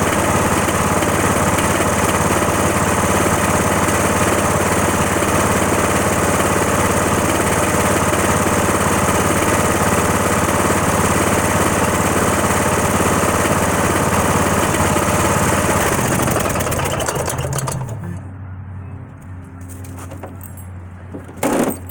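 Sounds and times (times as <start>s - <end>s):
lawn tractor engine running: 0.0s - 18.4s.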